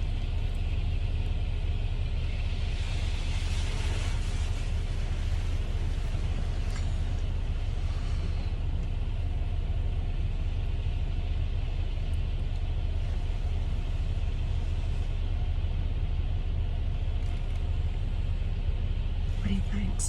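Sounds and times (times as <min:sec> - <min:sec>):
car cabin engine and road noise: 0:00.0 - 0:20.0.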